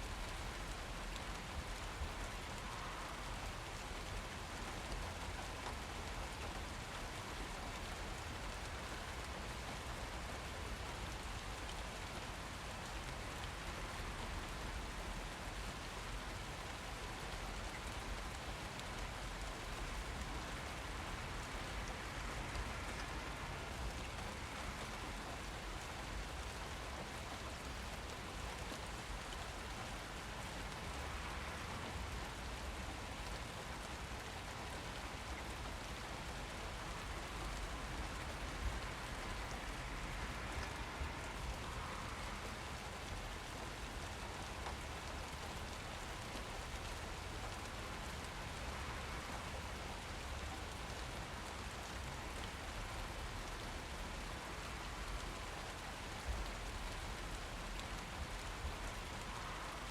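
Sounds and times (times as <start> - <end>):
louder raindrops: 0.0 - 59.9
rain pattering: 0.0 - 59.9.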